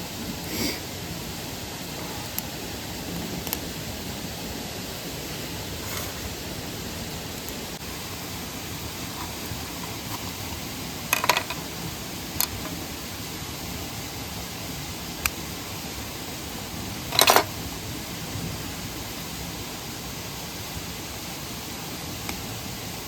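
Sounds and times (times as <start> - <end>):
mountain stream and waterfall: 0.0 - 23.0.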